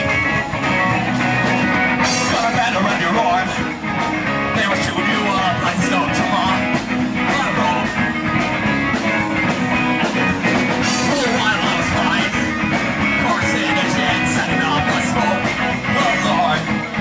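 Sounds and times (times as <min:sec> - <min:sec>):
driving drum beat: 0:00.0 - 0:17.0
electric guitar: 0:00.0 - 0:17.0.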